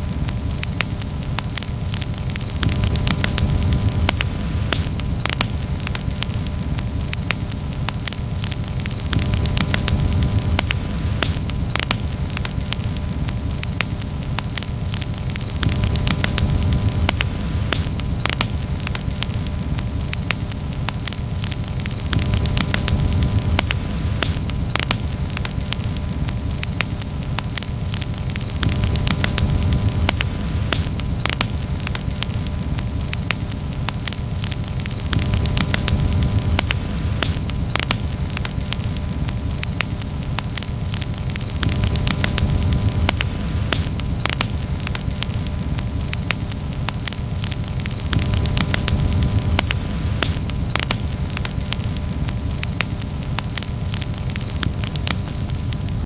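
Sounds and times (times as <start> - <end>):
steady low rush: 0.0 - 52.6
campfire crackling and popping: 0.0 - 56.0.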